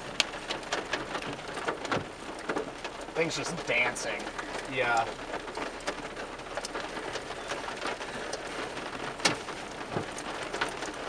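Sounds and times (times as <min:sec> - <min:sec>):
rain falling: 0:00.0 - 0:11.0
raindrops ticking: 0:00.0 - 0:11.0.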